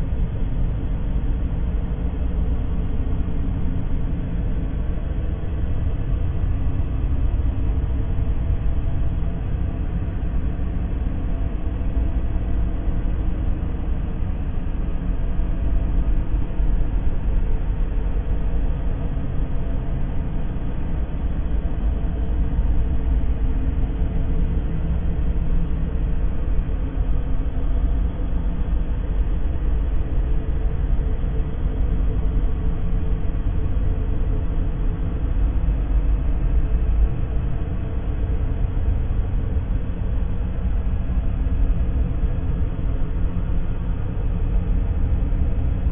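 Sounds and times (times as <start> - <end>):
low rumbling white noise: 0.0 - 45.9.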